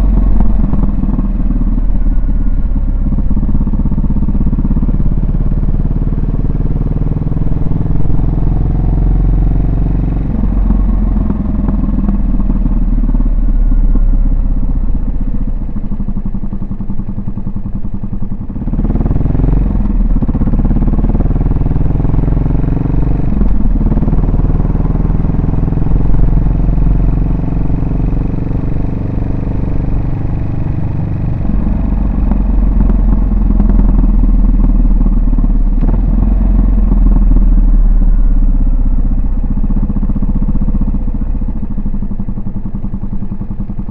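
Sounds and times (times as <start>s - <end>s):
motorcycle engine and exhaust: 0.0s - 43.9s.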